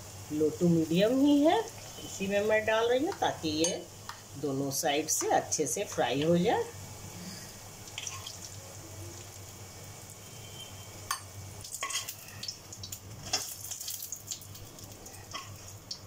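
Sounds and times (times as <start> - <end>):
batter slices sizzling in hot oil: 0.0 - 16.0.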